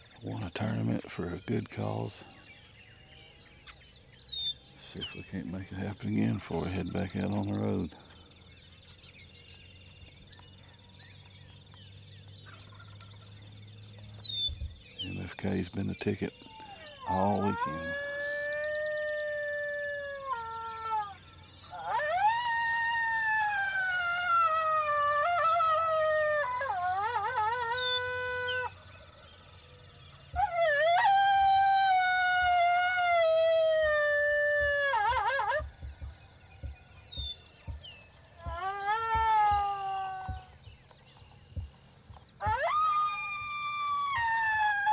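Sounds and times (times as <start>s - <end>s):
wild birds chirping: 0.0s - 44.9s.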